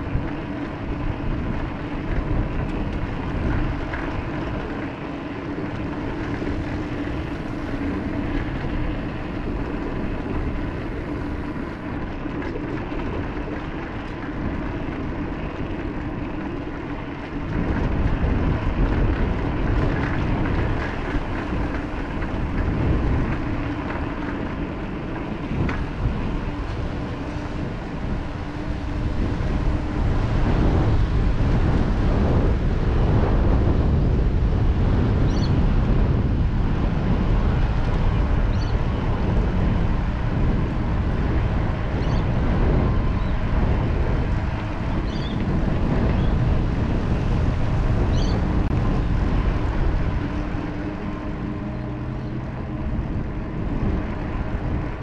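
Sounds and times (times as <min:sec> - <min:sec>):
steady drone with high whine: 0:00.0 - 0:55.0
wind rumbling on microphone: 0:00.0 - 0:55.0.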